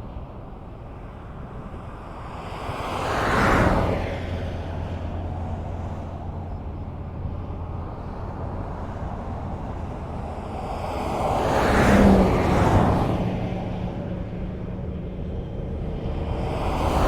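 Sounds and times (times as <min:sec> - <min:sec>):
highway traffic rumble: 0:00.0 - 0:17.0
vehicle passing close by: 0:02.1 - 0:17.0.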